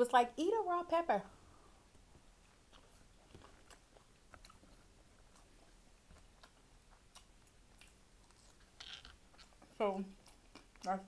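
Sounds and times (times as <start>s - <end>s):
person chewing food: 1.6s - 11.0s.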